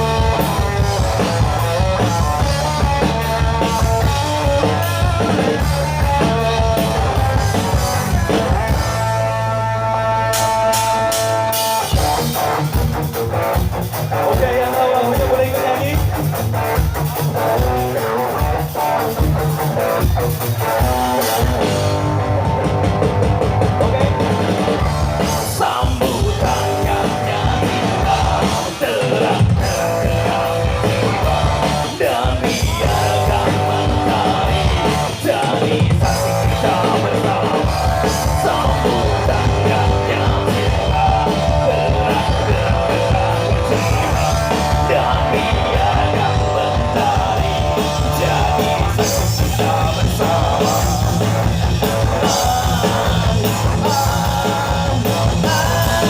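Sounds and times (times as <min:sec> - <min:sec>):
ska band playing: 0:00.0 - 0:56.0.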